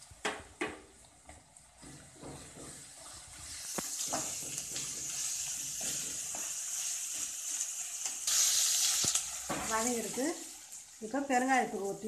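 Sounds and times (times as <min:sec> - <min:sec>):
vegetables sizzling in hot oil: 0:01.8 - 0:12.0.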